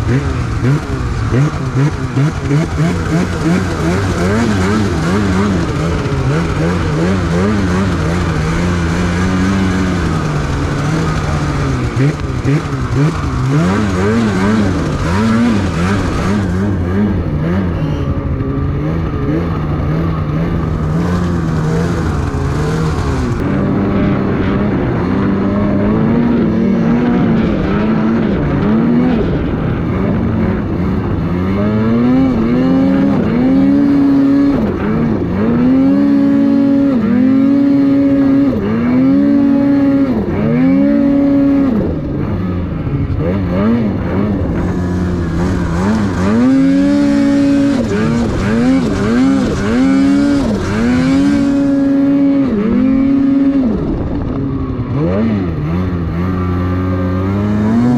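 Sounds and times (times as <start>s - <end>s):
snowmobile engine revving: 0.0s - 57.9s.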